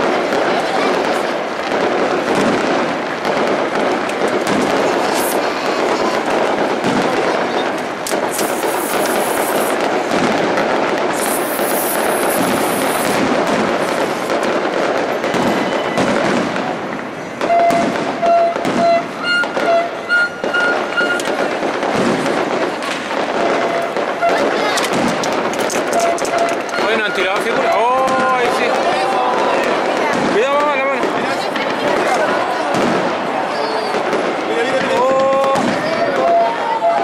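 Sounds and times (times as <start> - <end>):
fireworks crackling and popping: 0.0 - 37.0
hissing crackle bursts: 0.0 - 37.0.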